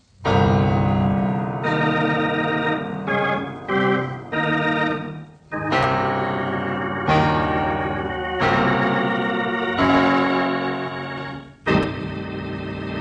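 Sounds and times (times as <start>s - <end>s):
organ playing held chords: 0.0s - 13.0s.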